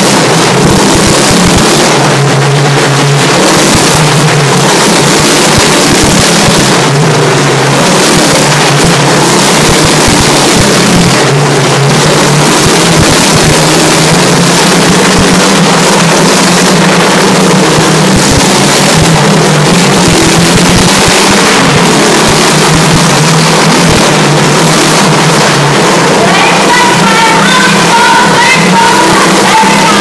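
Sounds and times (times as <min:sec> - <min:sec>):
motorcycle engines running: 0:00.0 - 0:30.0.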